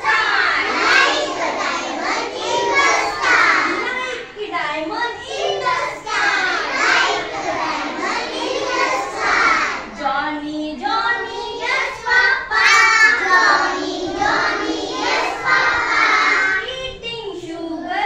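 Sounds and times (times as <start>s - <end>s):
children singing together: 0.0s - 10.1s, 10.7s - 18.0s.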